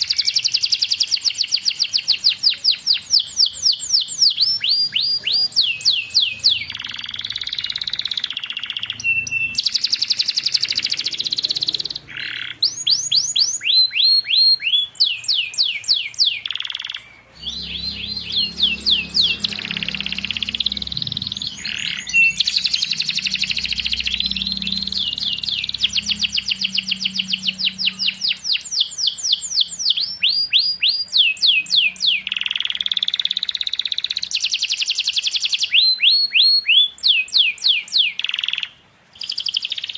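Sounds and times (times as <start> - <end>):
canary singing trills: 0.0 - 39.9
faint low hum: 1.5 - 34.3.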